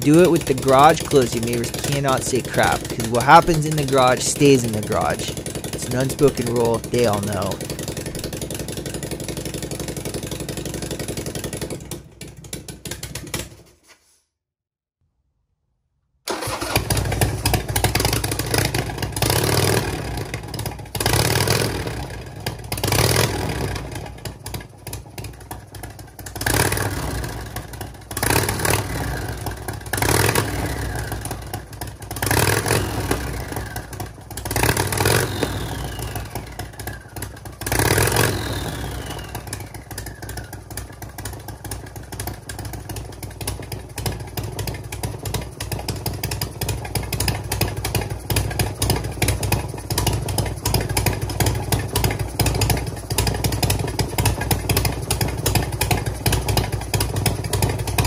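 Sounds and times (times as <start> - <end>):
motorcycle engine idling: 0.0 - 13.6, 16.3 - 58.0
motorcycle engine revving: 0.0 - 13.6, 16.3 - 58.0.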